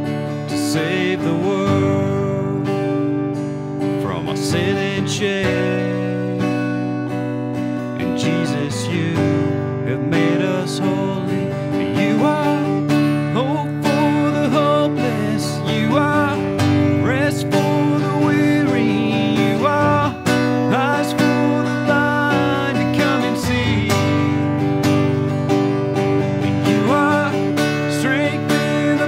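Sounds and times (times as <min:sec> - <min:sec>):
man singing: 0:00.0 - 0:06.7, 0:07.9 - 0:25.4, 0:26.1 - 0:29.0
strummed acoustic guitar: 0:00.0 - 0:29.0.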